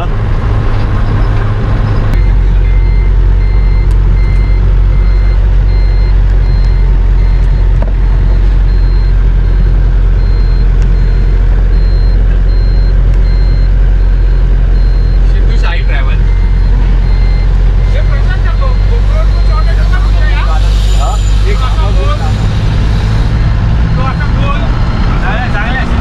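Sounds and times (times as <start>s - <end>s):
van engine and road noise: 0.0s - 26.0s
high electronic beeps: 0.8s - 26.0s.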